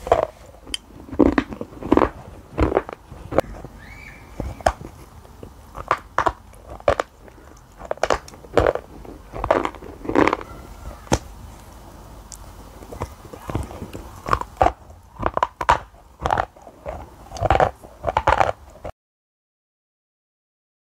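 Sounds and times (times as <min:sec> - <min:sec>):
biting and chewing brittle chalk: 0:00.0 - 0:18.9.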